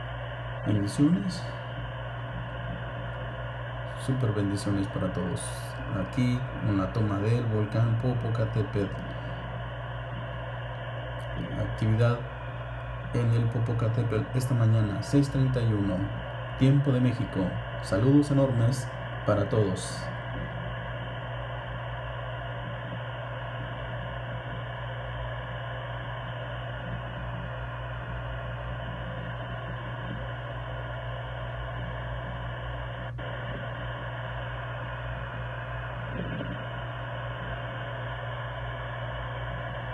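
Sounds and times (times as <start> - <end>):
constant hiss: 0.0 - 39.9
low hum: 0.0 - 39.9.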